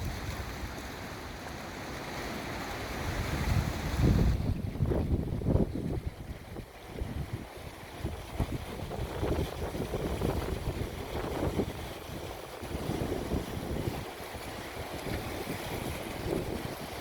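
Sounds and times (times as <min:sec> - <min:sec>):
sea waves washing in: 0:00.0 - 0:17.0
wind gusting on microphone: 0:03.0 - 0:17.0.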